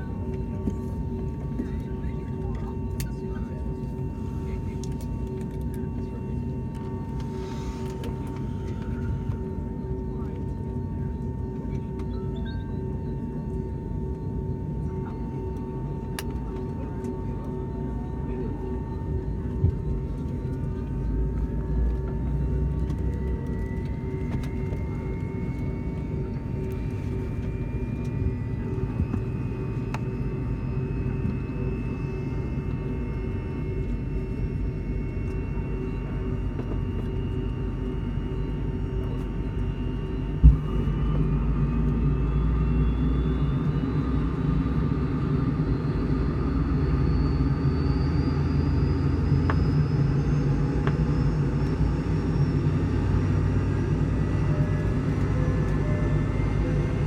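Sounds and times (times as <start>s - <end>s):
jet engine rumble: 0.0s - 57.0s
jet engine whine rising: 0.2s - 57.0s.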